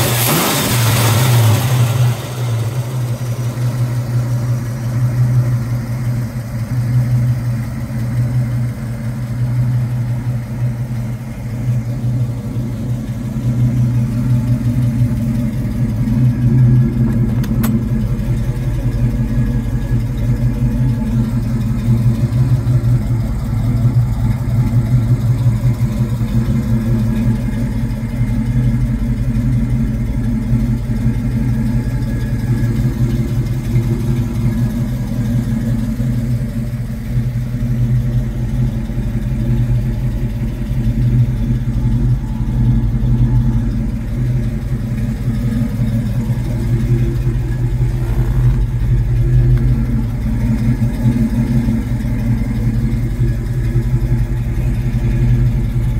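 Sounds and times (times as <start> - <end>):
car engine idling with deep rumble: 0.0 - 55.9.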